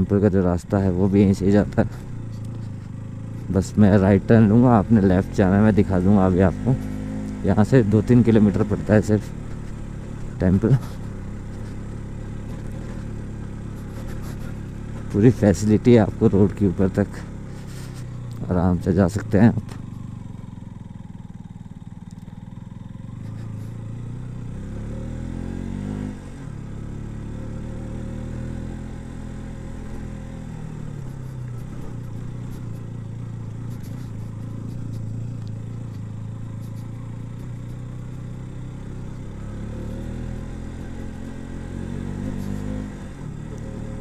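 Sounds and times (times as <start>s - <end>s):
single-cylinder engine running: 0.0s - 44.0s.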